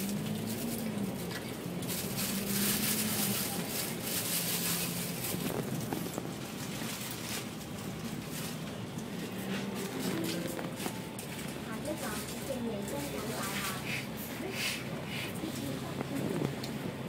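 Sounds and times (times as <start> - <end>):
bus engine hum: 0.0 - 17.0
road and wind noise: 0.0 - 17.0.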